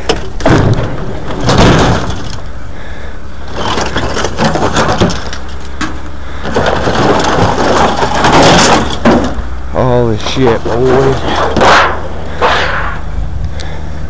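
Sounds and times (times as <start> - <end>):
scrap metal scraping and clattering: 0.0 - 13.1
steady low hum: 0.0 - 14.0.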